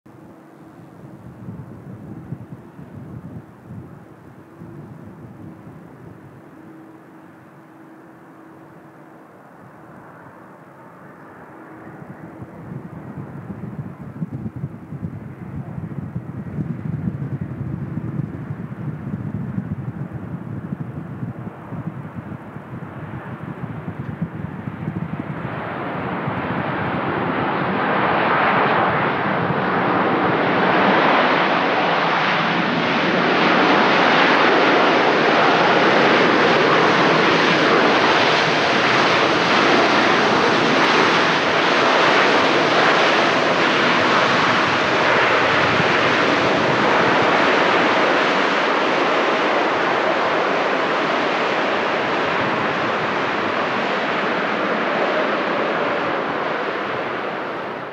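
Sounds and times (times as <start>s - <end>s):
jet engines roaring on landing: 0.1s - 57.9s.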